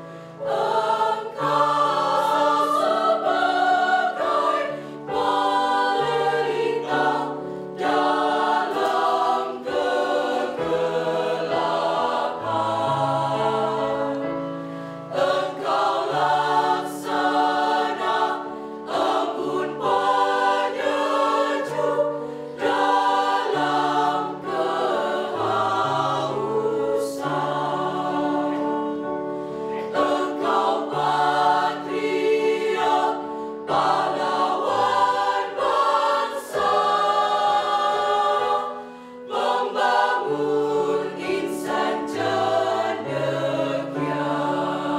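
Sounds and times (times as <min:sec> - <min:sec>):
choir singing in parts: 0:00.0 - 0:44.9.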